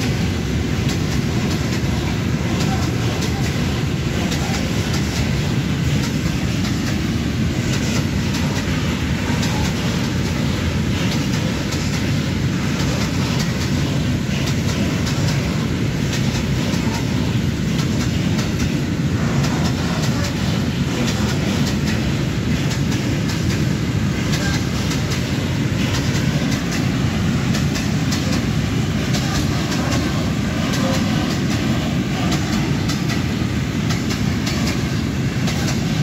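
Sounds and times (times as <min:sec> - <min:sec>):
freight train rolling past: 0:00.0 - 0:36.0.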